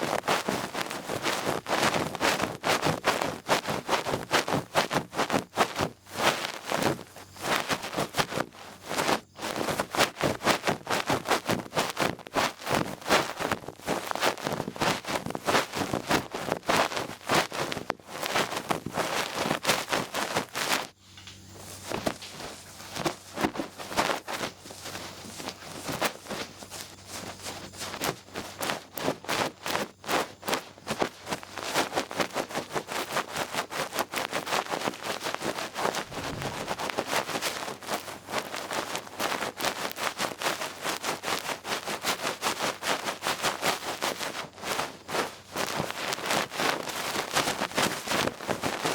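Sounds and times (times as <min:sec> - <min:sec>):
ear pick rustling and scratching: 0:00.0 - 0:48.9.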